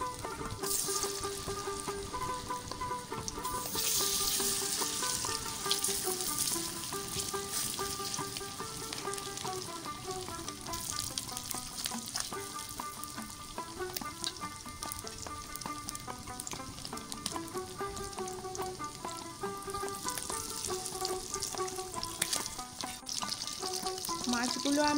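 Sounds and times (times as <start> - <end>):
fish sizzling in hot oil: 0.0 - 24.9
light background music: 0.0 - 24.9.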